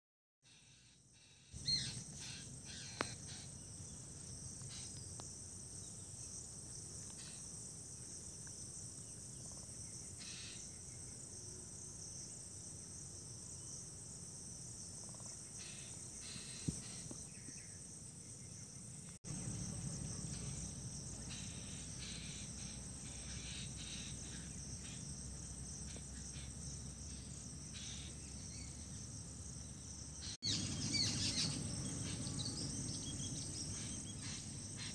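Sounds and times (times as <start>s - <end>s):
insect chorus: 0.4s - 34.9s.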